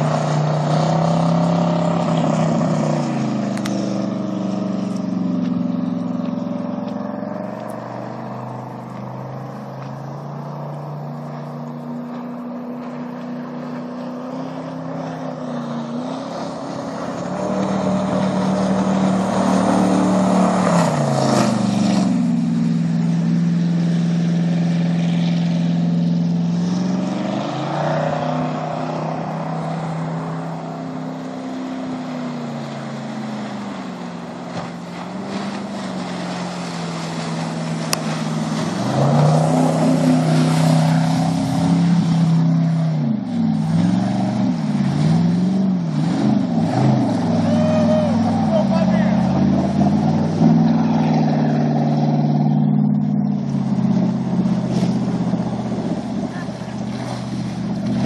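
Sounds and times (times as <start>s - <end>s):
boat engine running hard: 0.0s - 58.0s.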